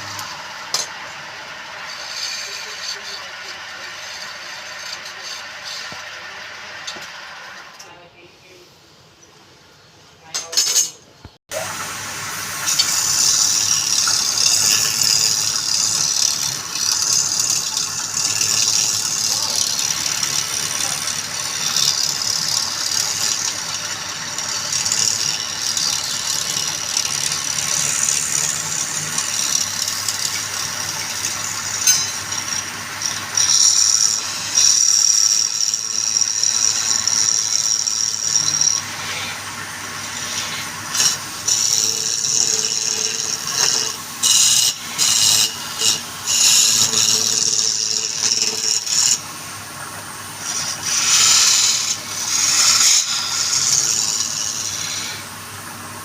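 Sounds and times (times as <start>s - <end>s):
lathe tool cutting wood: 0.0s - 7.8s, 11.5s - 56.0s.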